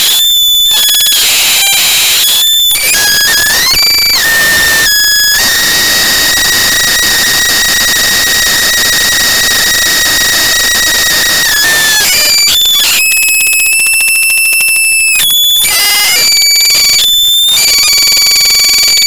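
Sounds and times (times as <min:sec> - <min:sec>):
loud harsh hiss: 0:00.0 - 0:19.0
steady whistling tone: 0:00.0 - 0:19.0.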